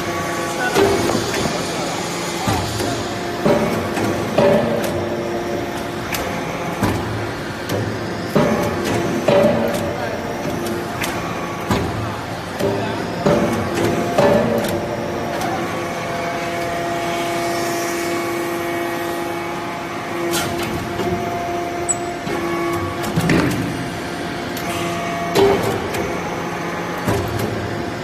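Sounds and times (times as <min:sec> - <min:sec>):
hydraulic pump and motor hum: 0:00.0 - 0:28.0.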